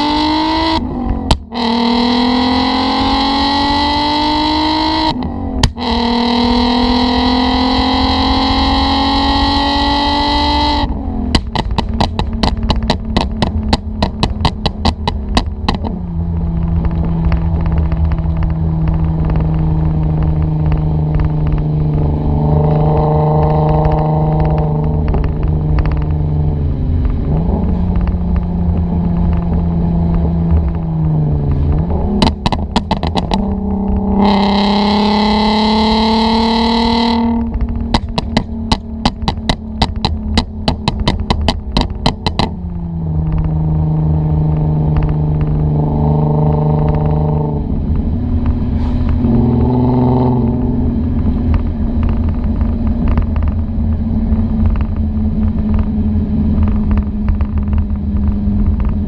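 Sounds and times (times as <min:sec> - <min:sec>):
car engine accelerating: 0:00.0 - 0:59.0
exhaust popping and crackling: 0:00.0 - 0:59.0.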